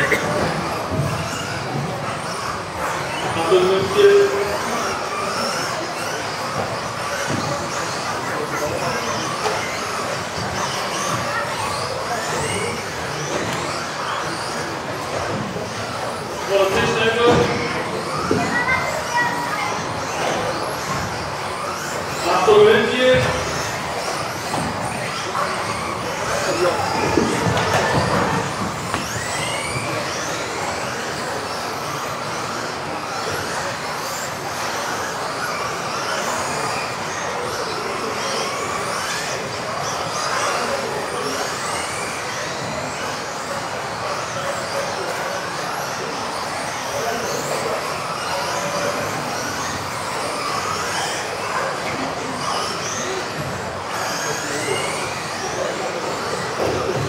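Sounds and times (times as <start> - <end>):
rc car motors whining: 0.0 - 57.0.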